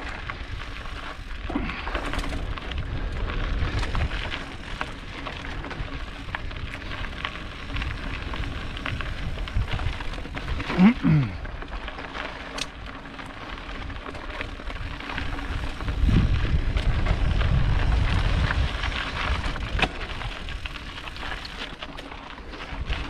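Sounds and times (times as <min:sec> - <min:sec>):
bike tyres crunching over gravel: 0:00.0 - 0:23.0
small clicks and rattles: 0:00.0 - 0:23.0
wind rumble on microphone: 0:00.0 - 0:23.0.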